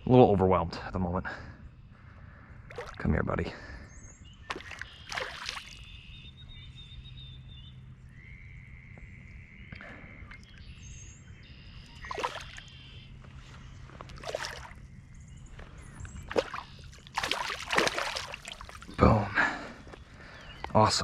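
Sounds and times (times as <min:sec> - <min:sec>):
faint bird calls: 0:00.8 - 0:21.0.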